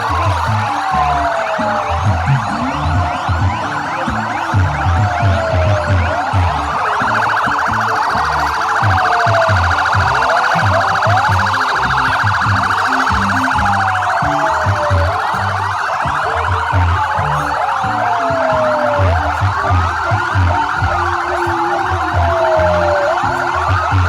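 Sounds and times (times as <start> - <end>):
ambulance sirens wailing: 0.0 - 24.0.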